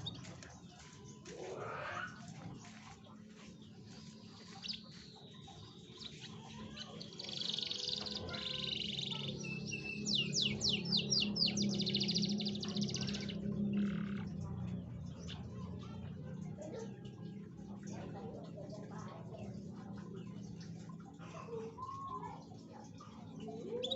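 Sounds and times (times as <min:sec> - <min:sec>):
canary singing trills: 0:00.0 - 0:23.9.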